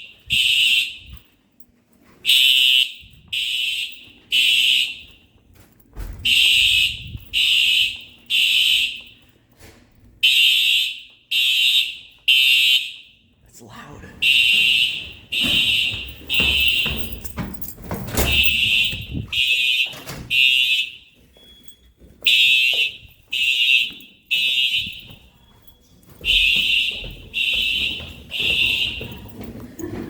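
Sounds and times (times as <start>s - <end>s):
fire alarm horn: 0.0s - 1.3s, 2.2s - 5.4s, 6.2s - 9.2s, 10.2s - 13.3s, 14.2s - 17.6s, 18.2s - 29.4s.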